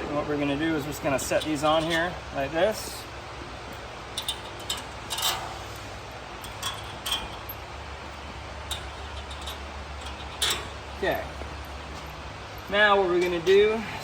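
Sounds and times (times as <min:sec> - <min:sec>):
low steady hum: 0:00.0 - 0:14.0
steel washers clinking: 0:00.7 - 0:03.1, 0:03.7 - 0:14.0.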